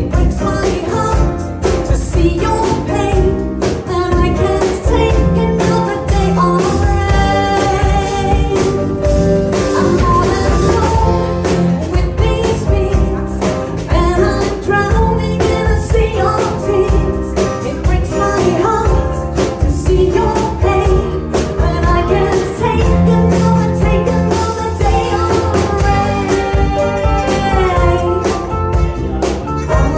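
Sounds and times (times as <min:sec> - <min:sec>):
pop-rock ballad band: 0:00.0 - 0:29.9.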